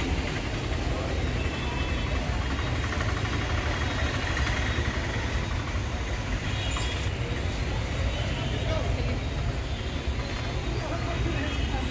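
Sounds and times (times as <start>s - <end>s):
low traffic rumble: 0.0s - 11.9s
vehicle engines running: 0.0s - 11.9s.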